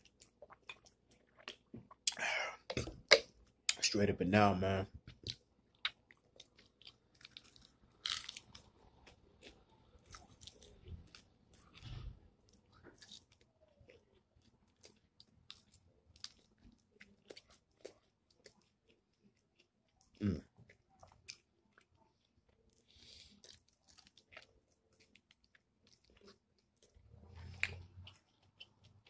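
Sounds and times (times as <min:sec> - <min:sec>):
chewing fried chicken: 0:00.0 - 0:02.2, 0:05.1 - 0:29.0.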